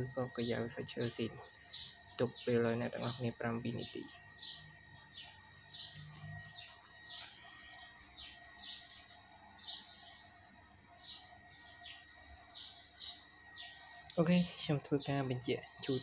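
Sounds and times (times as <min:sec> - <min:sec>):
faint bird chirping: 0:00.0 - 0:16.0
thin high whine: 0:00.0 - 0:16.0.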